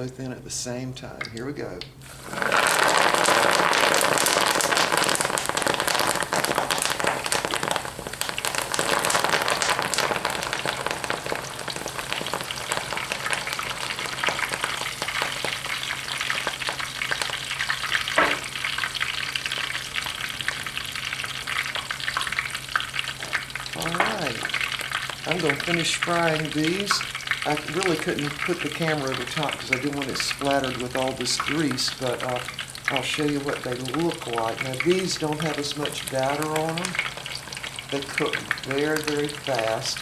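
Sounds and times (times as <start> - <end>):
oil sizzling in deep fryer: 0.0 - 40.0.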